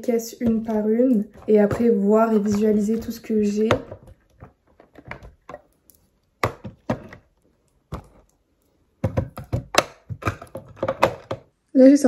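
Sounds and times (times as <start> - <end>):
plastic boxes knocking and clacking: 0.0 - 11.5.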